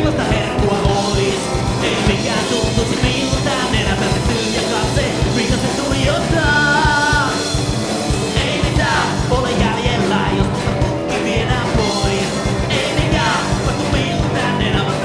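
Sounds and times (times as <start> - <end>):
man singing into a microphone: 0.0 - 7.6, 8.3 - 15.0
bass guitar: 0.0 - 15.0
drums: 0.0 - 15.0
electric guitar: 0.0 - 15.0.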